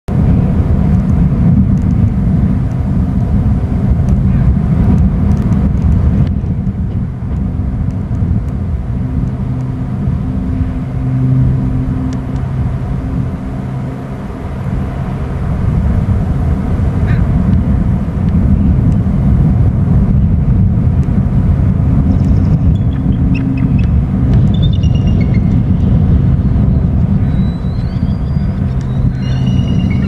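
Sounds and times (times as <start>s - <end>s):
engine rumble: 0.0s - 30.0s.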